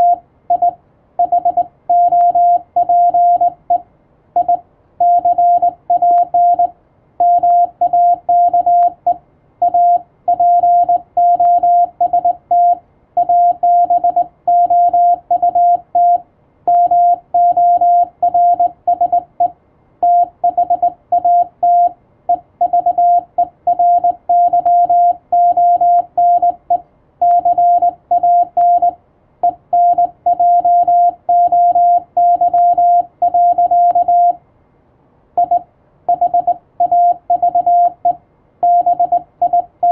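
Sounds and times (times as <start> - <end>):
morse code tone: 0.0 - 3.8, 4.4 - 34.4, 35.4 - 39.9.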